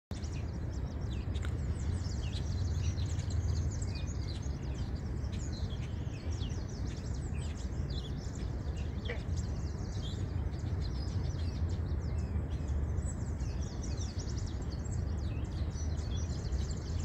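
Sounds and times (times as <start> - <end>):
birds chirping: 0.1 - 17.0
low background rumble: 0.1 - 17.0.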